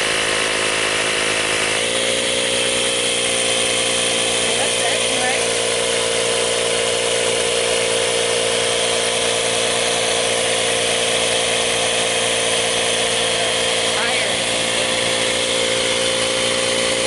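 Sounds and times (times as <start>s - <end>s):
electric air compressor running: 0.0s - 17.0s.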